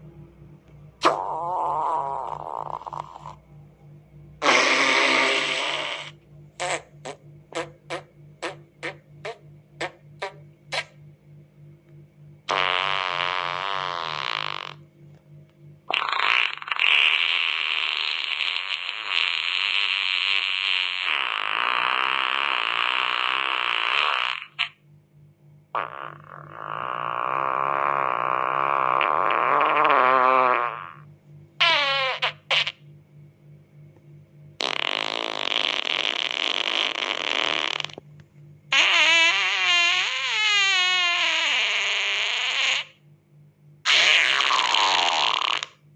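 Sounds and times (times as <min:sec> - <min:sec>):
fart sound effect: 0:01.0 - 0:03.5, 0:04.4 - 0:11.0, 0:12.5 - 0:14.8, 0:15.9 - 0:24.8, 0:25.7 - 0:32.8, 0:34.6 - 0:38.0, 0:38.7 - 0:43.0, 0:43.8 - 0:45.8.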